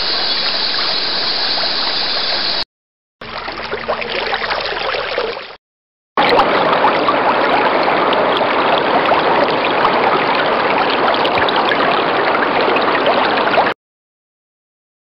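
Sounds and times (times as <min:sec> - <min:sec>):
stream water flowing: 0:00.0 - 0:02.6, 0:03.2 - 0:05.6, 0:06.2 - 0:13.6.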